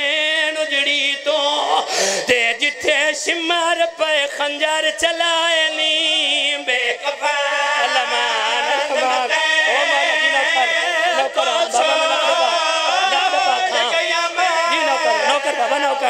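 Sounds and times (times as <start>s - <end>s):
men singing a lament: 0.0s - 16.0s.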